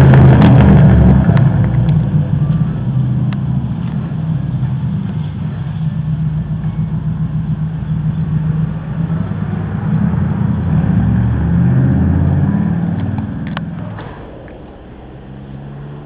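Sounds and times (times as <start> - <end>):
engine choppy idle: 0.0 - 16.0.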